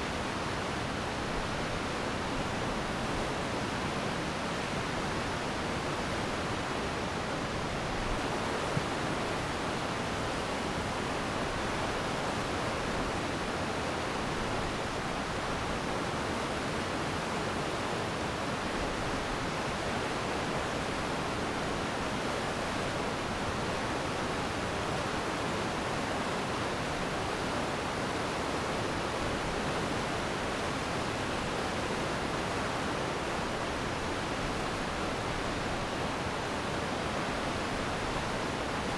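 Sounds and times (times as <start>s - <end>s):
stream flowing fast: 0.1s - 38.9s.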